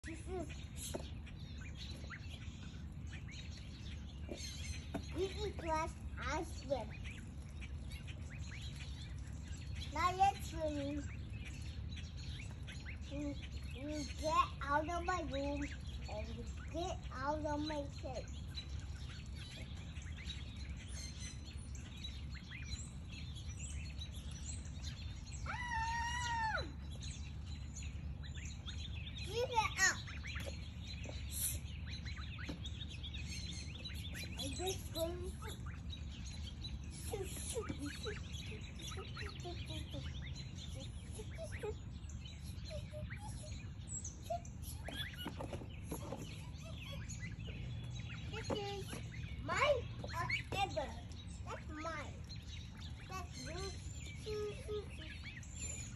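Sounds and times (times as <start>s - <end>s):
ducklings peeping: 0.0s - 55.9s
low background hum: 0.0s - 55.9s
low background rumble: 0.0s - 55.9s.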